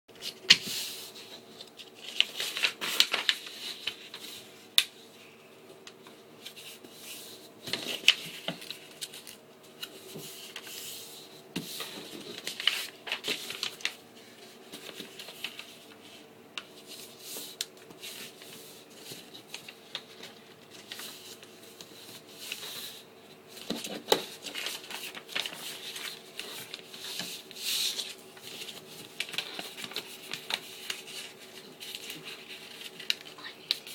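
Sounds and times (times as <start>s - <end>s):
paper rustling and crinkling: 0.2s - 5.1s, 6.0s - 33.9s.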